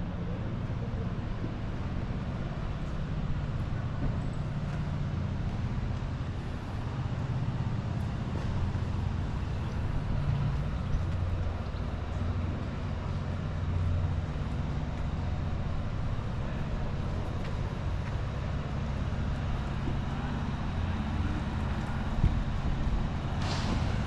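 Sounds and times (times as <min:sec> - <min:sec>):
city street noise: 0:00.0 - 0:24.0
vehicle engine rumble: 0:00.0 - 0:24.0.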